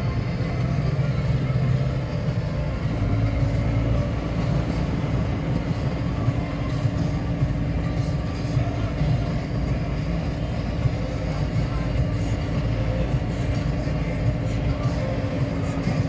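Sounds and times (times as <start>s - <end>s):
vehicle engine droning with rattle: 0.0s - 16.0s.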